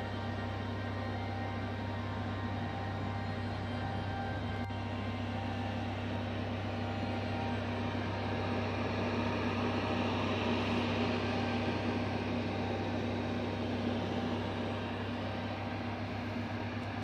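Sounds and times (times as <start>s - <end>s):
dehydrator fan motor humming: 0.0s - 17.0s.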